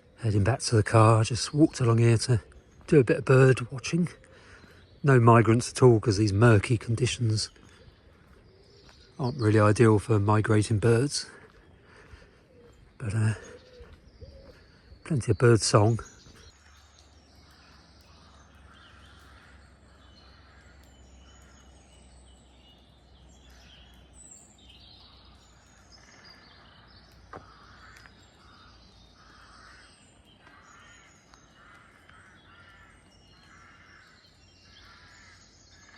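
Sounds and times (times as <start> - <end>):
birds singing and calling: 0.0 - 35.9.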